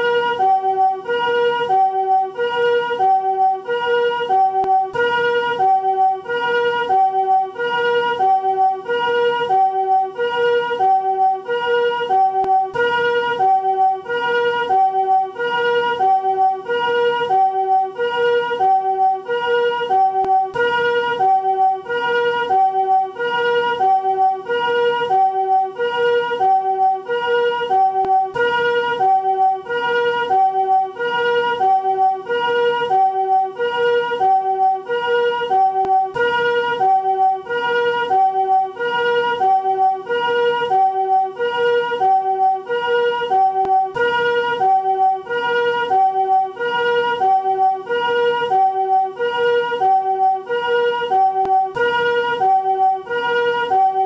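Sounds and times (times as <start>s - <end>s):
two-tone ambulance siren: 0.0s - 54.0s.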